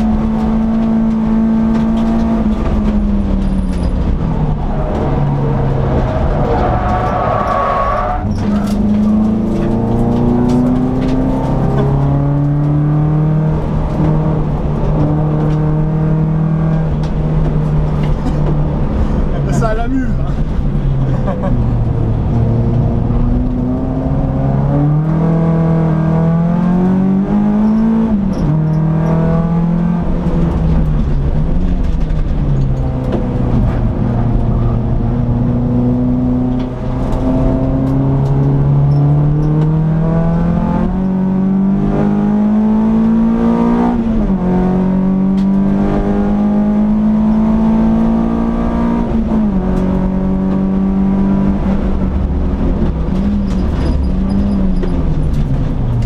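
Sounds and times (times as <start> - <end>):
car engine revving under acceleration: 0.0 - 56.0.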